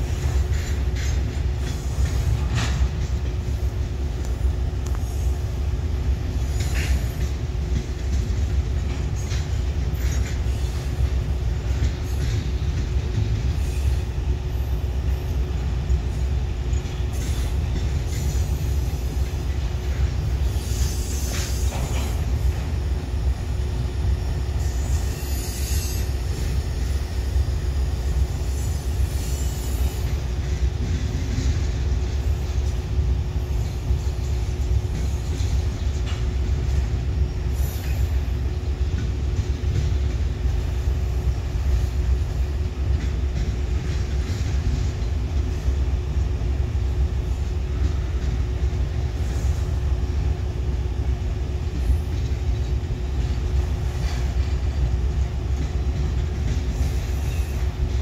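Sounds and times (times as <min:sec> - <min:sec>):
train cars rumbling on rails: 0:00.0 - 0:58.0.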